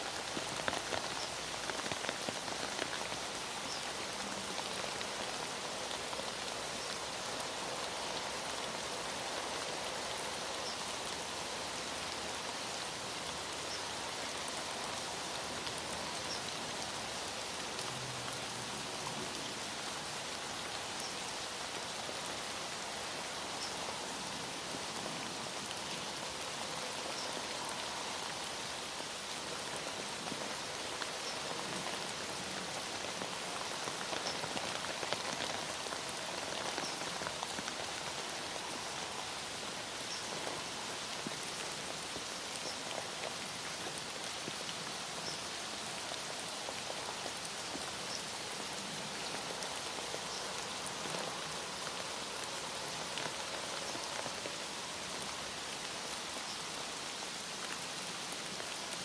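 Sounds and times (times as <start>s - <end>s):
heavy rain patter: 0.0s - 59.0s.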